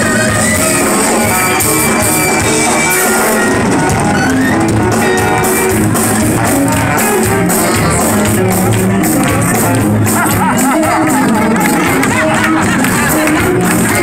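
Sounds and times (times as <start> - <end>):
drum beat: 0.0 - 14.0
sousaphone bass line: 0.0 - 14.0.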